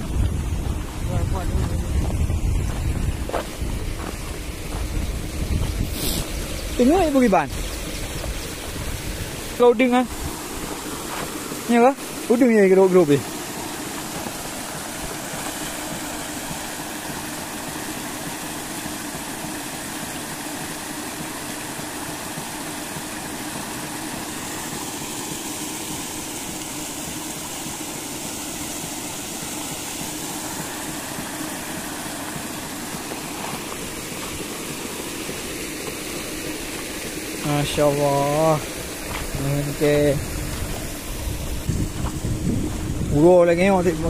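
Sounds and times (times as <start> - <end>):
motor hum: 0.0 - 44.0
water splashing and churning: 0.0 - 44.0.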